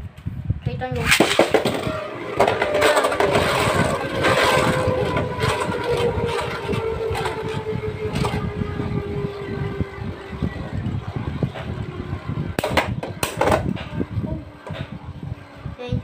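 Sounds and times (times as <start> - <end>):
spinning tops whirring: 1.1 - 15.7.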